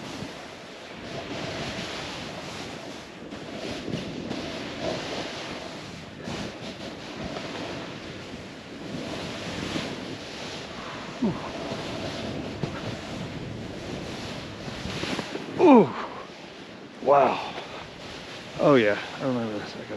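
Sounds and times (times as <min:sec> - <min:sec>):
snowboard carving through snow: 0:00.0 - 0:19.9
wind hiss on microphone: 0:00.0 - 0:19.9.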